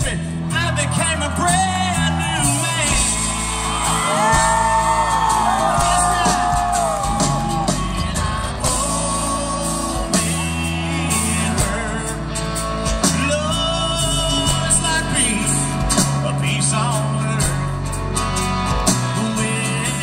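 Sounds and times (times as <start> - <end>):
live country band: 0.0 - 20.0
melodic guitar lines: 0.0 - 20.0
steady bass line: 0.0 - 20.0.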